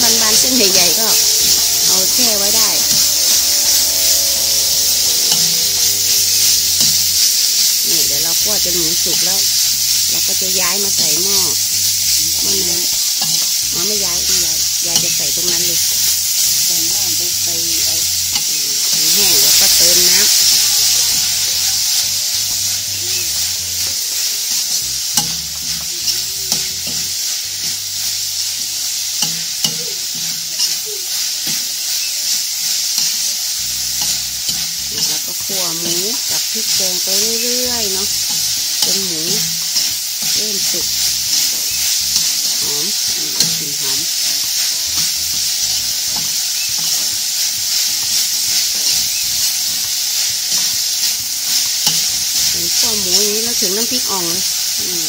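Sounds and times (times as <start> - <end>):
meat sizzling in a pan: 0.0 - 55.0
stirring scrape and clink: 4.9 - 54.0.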